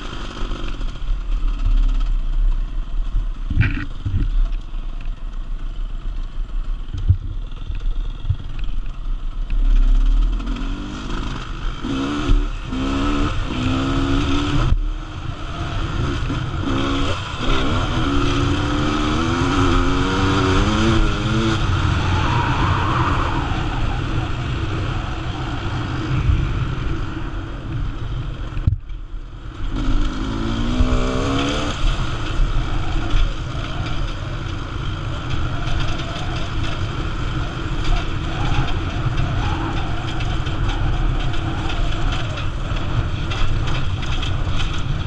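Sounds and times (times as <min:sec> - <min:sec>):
motorcycle engine revving: 0:06.4 - 0:28.4, 0:29.2 - 0:45.0.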